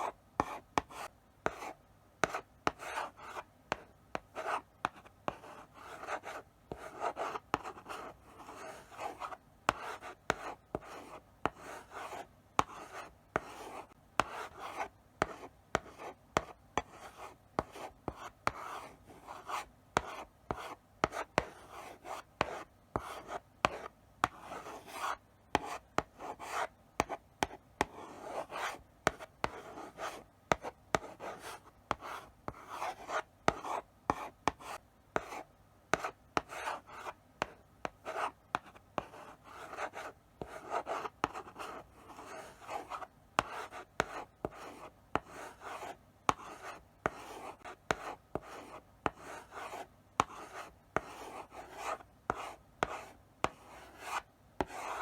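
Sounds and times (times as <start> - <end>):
chalk writing on a blackboard: 0.0 - 55.0.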